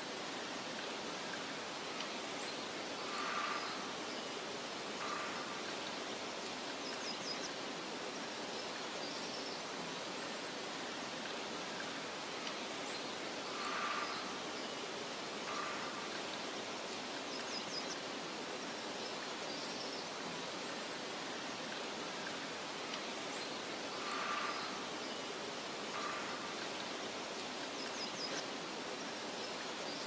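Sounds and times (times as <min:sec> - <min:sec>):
wind rustling through grass: 0:00.0 - 0:30.0.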